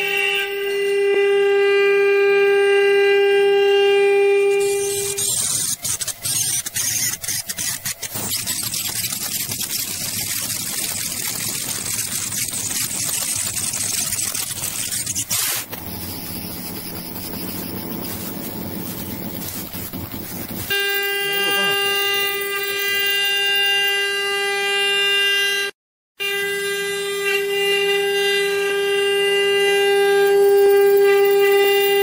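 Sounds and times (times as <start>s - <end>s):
cnc router cutting: 0.0s - 32.0s.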